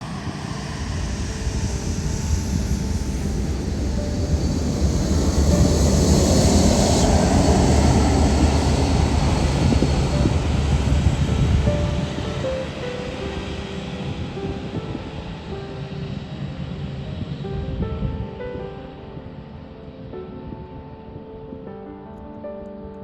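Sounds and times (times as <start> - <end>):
jet engines roaring: 0.0 - 19.2.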